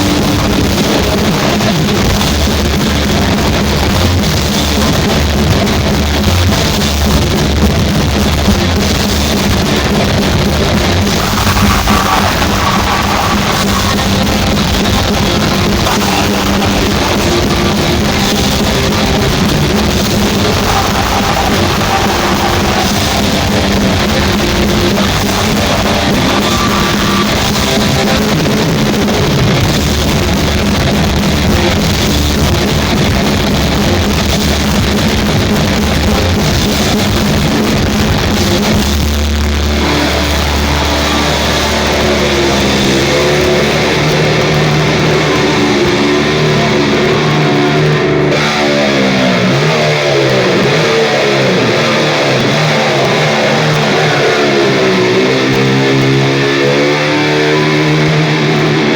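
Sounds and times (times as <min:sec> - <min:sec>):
heavy metal band playing: 0:00.0 - 0:58.9.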